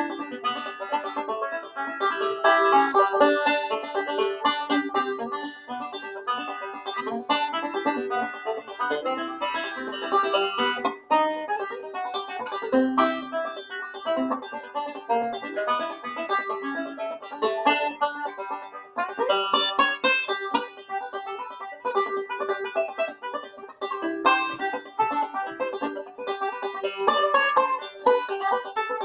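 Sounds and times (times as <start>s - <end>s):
fast plucked string music: 0.0s - 29.0s.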